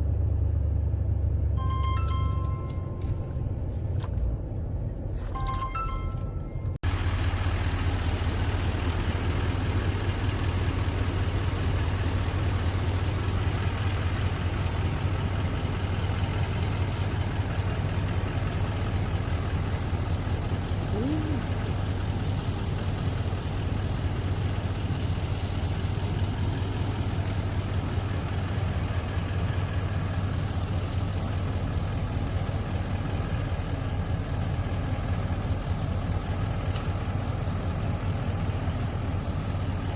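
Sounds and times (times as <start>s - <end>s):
large vehicle engine humming: 0.0s - 39.9s.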